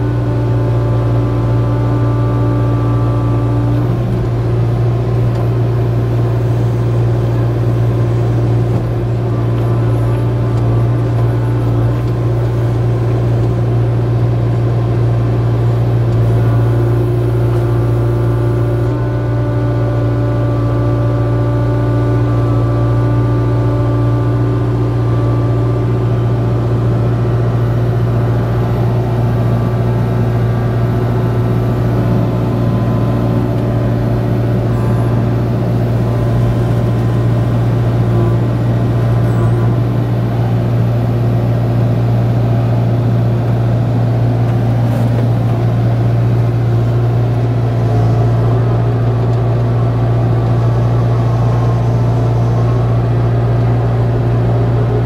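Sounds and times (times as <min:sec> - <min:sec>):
excavator diesel engine running: 0:00.0 - 0:55.0
hydraulic whining: 0:00.0 - 0:55.0.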